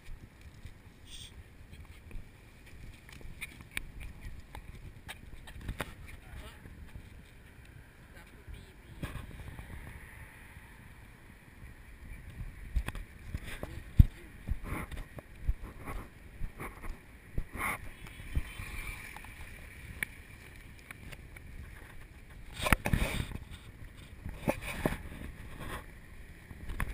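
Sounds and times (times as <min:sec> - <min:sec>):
wind on microphone: 0:00.0 - 0:26.9.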